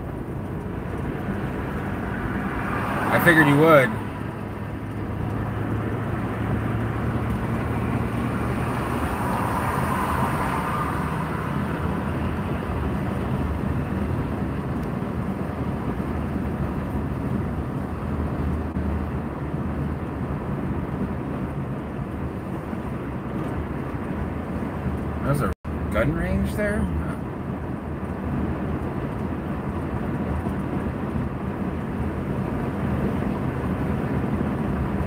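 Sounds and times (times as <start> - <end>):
car engine hum: 0.0 - 35.0
tyre and road noise: 0.0 - 35.0.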